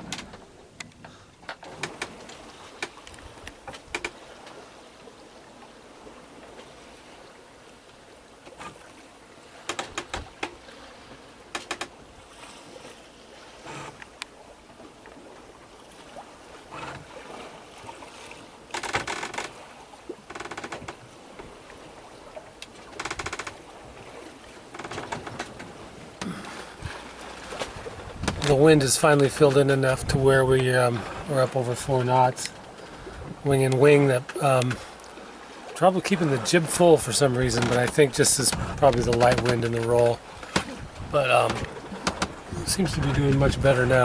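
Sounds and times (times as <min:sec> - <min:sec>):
water washing along hull: 0:00.0 - 0:44.0.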